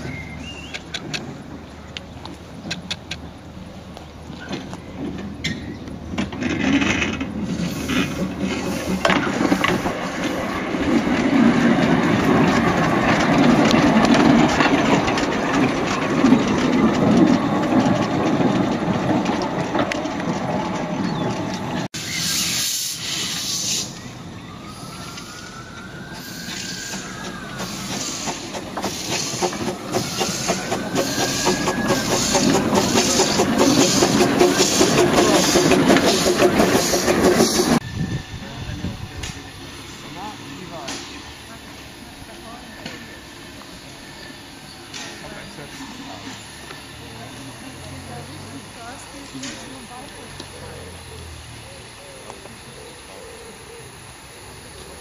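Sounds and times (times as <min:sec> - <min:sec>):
locomotive squeals: 0:00.0 - 0:01.0, 0:04.3 - 0:05.9, 0:06.5 - 0:50.0
diesel locomotive engine running: 0:00.0 - 0:55.0
steam locomotive hissing: 0:07.1 - 0:55.0.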